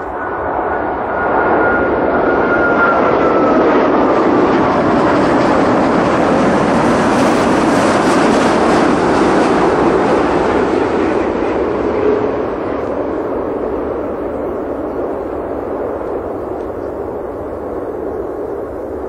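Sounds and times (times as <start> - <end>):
jet airliner roar with fan whine: 0.0 - 19.0.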